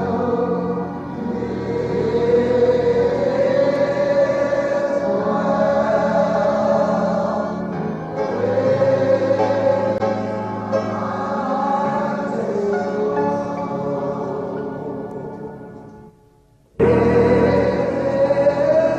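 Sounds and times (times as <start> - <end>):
choir singing a slow hymn: 0.0 - 15.5, 16.8 - 18.9.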